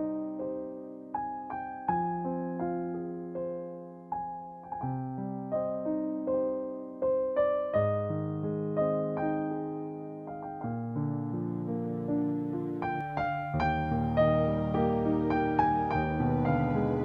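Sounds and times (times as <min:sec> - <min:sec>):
slow solo piano piece: 0:00.0 - 0:17.0.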